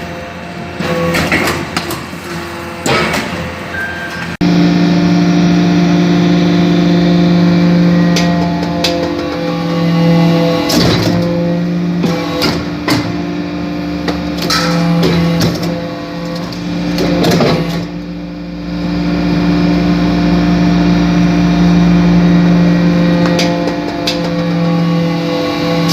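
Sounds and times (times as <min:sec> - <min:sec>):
hydraulic pump humming: 0:00.0 - 0:25.9.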